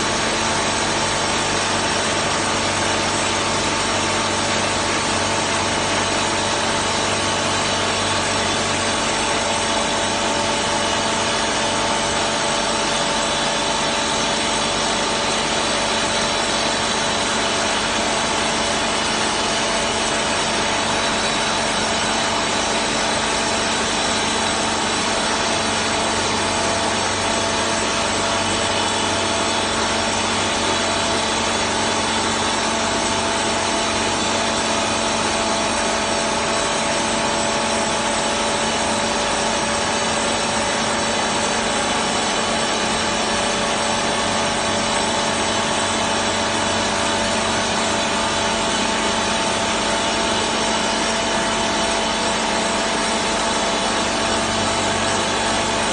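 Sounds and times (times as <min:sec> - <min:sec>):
hydraulic rock drill grinding: 0:00.0 - 0:55.9.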